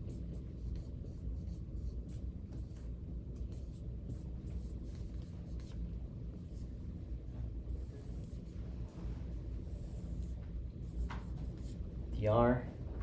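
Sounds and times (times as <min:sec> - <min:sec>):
marker scratching on whiteboard: 0:00.0 - 0:12.1
low room hum: 0:00.0 - 0:13.0.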